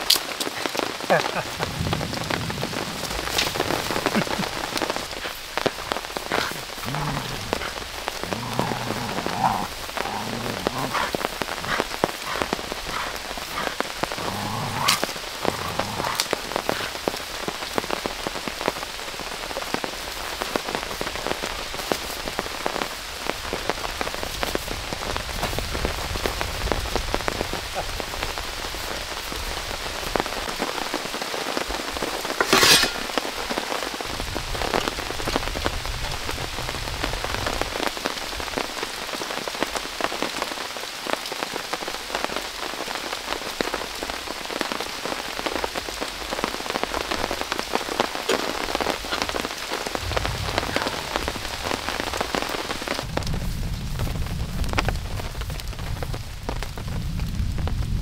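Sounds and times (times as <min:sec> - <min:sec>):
rain falling: 0:00.0 - 0:58.0
raindrops striking close by: 0:00.0 - 0:58.0.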